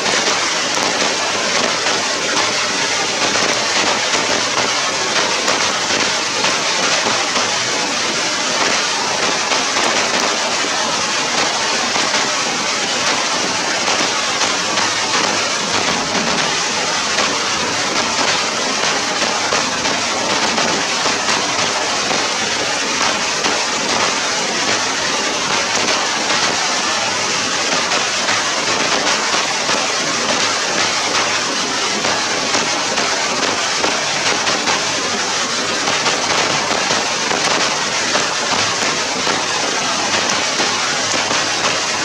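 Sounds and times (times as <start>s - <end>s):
rain on wet grass: 0.0s - 42.0s.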